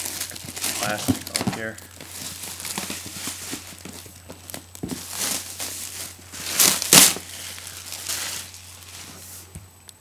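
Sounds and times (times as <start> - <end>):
plastic wrap tearing rips: 0.0 - 9.0
plastic wrap crinkling: 0.0 - 9.5.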